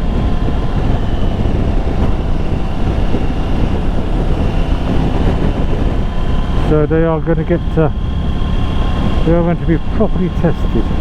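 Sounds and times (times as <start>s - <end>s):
motorcycle engine: 0.0s - 11.0s
wind noise: 0.0s - 11.0s.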